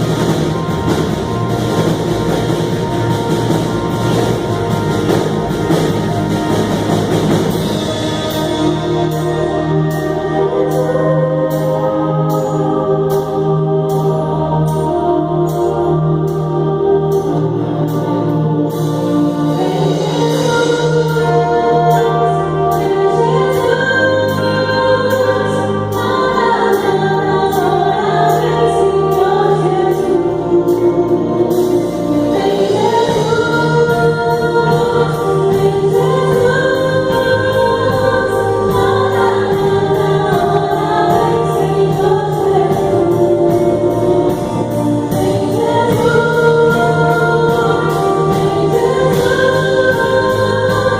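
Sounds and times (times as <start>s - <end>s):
group of voices singing: 0.0s - 50.9s
keyboard accompaniment with beat: 0.0s - 50.9s.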